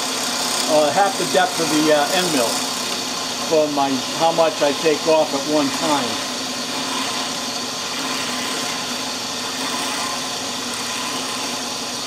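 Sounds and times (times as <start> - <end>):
drill press cutting wood whirr: 0.0 - 12.0.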